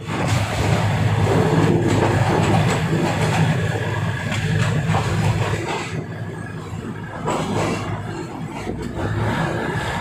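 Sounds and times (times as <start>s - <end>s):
diesel engine drone: 0.0s - 10.0s
wheels clicking over rail joints: 0.0s - 10.0s.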